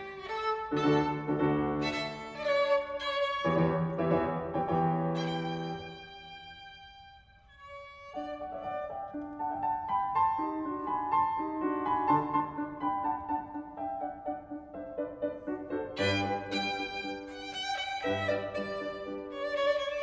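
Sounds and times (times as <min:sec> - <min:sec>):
grand piano melody: 0:00.0 - 0:20.0
violin and piano phrase: 0:00.0 - 0:20.0.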